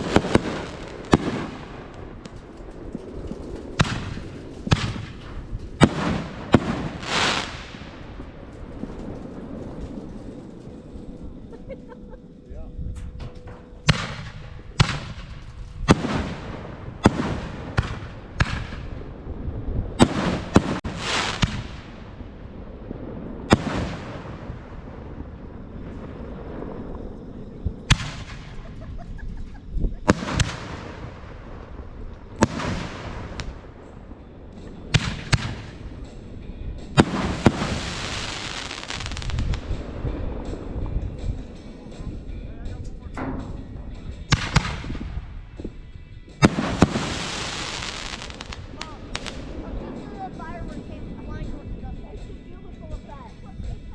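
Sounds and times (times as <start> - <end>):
fireworks bangs: 0.0 - 12.0, 13.4 - 42.2, 43.2 - 50.8
fireworks hissing and crackling: 0.0 - 12.8, 13.8 - 53.9.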